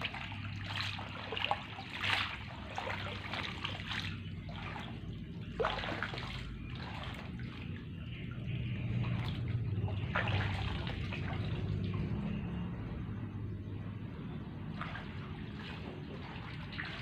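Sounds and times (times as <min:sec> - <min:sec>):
pond water splashing: 0:00.0 - 0:17.0
steady low hum: 0:00.0 - 0:17.0.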